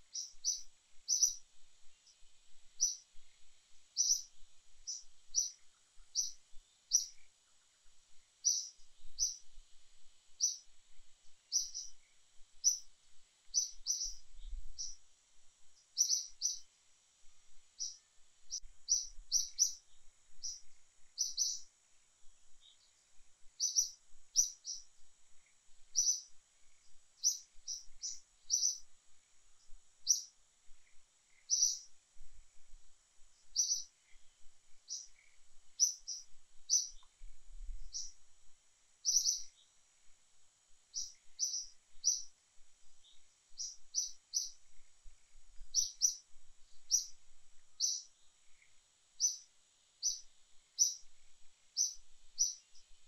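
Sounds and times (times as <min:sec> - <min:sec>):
bird chirping: 0:00.0 - 0:09.6, 0:10.3 - 0:10.7, 0:11.5 - 0:15.0, 0:15.7 - 0:16.7, 0:17.5 - 0:21.7, 0:22.6 - 0:28.9, 0:29.6 - 0:32.0, 0:33.4 - 0:37.2, 0:37.8 - 0:38.2, 0:39.0 - 0:39.8, 0:40.9 - 0:53.0
forest background hiss: 0:00.0 - 0:53.0.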